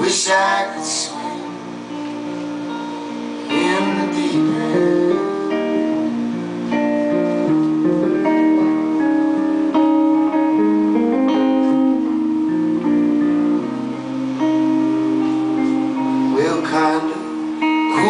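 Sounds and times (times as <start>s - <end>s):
live band playing instrumental: 0.0s - 18.0s
strummed guitar chords: 0.0s - 18.0s.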